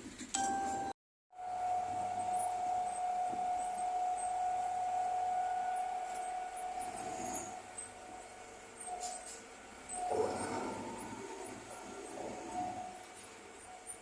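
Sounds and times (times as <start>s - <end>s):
bulldozer whine: 0.4s - 14.0s.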